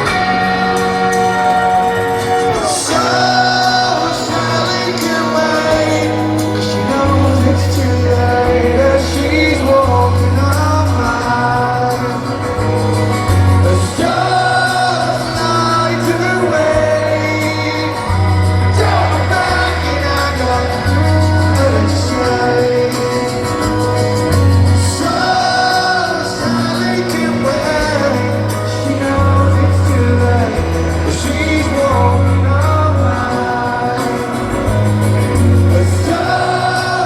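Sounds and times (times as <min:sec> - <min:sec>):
bass line: 0:00.0 - 0:37.0
live rock band playing: 0:00.0 - 0:37.0
person singing: 0:00.0 - 0:37.0.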